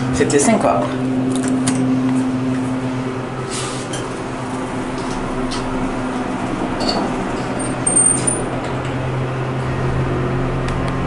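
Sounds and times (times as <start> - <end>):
elevator humming: 0.0 - 11.0.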